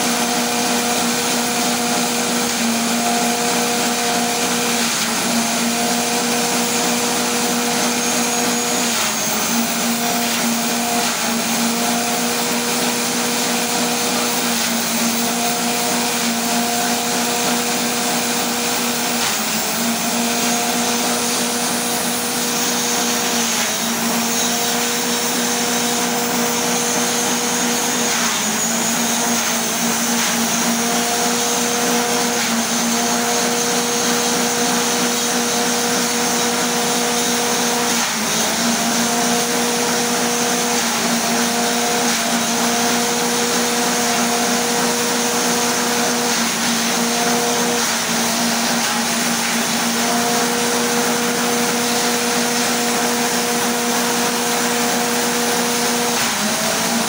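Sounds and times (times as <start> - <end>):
cutter whirring: 0.0 - 57.0.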